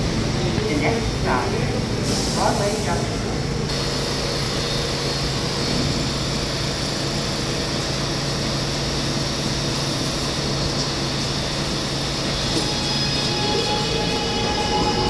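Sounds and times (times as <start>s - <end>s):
subway wheels roaring on rail: 0.0s - 15.0s.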